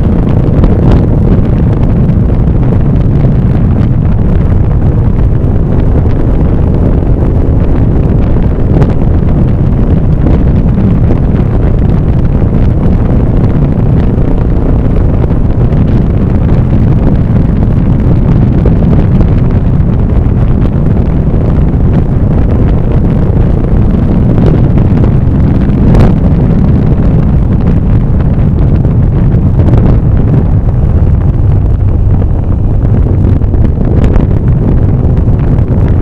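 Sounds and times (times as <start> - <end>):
vehicle running noise: 0.0 - 36.0
wind rumble on microphone: 0.0 - 36.0.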